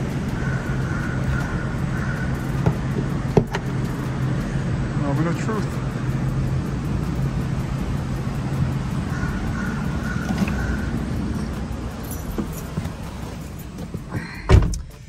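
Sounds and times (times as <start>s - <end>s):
low hum: 0.0s - 14.1s
traffic and street noise: 0.0s - 15.0s.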